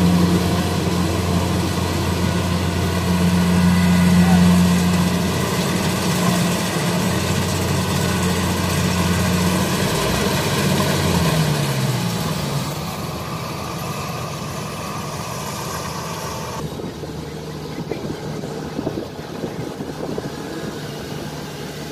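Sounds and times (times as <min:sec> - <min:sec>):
harvester engine clattering: 0:00.0 - 0:21.9.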